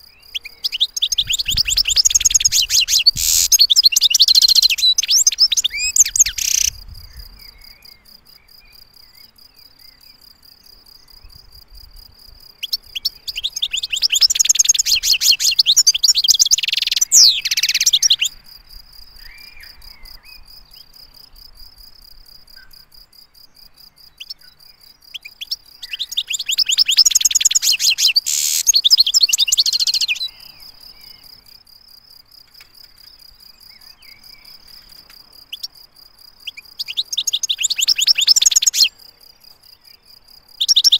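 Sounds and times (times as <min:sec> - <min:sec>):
twittering bird song: 0:00.0 - 0:11.8, 0:12.4 - 0:18.4, 0:19.0 - 0:21.4, 0:22.5 - 0:31.7, 0:32.6 - 0:40.9.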